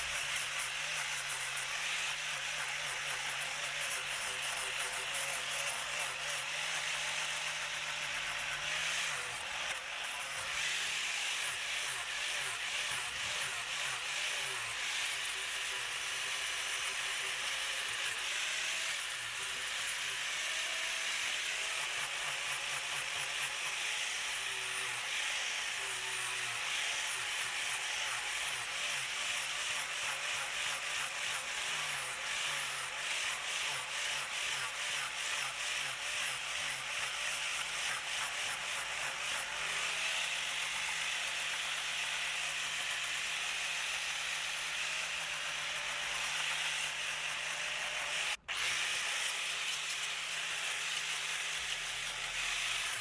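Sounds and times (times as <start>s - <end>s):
power sander on wood: 0.0s - 53.0s.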